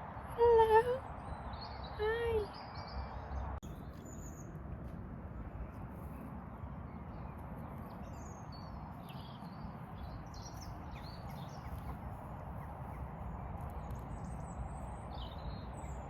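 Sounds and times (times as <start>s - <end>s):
low wind rumble on microphone: 0.0s - 16.0s
songbirds chirping: 0.1s - 16.0s.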